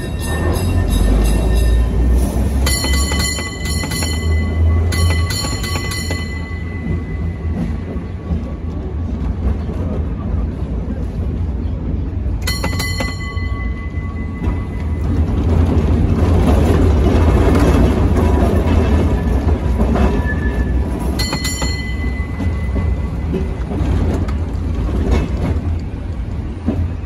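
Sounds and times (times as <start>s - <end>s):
streetcar bell clanging: 0.0s - 8.8s, 12.2s - 25.7s
streetcar rumbling on rails: 0.0s - 27.0s.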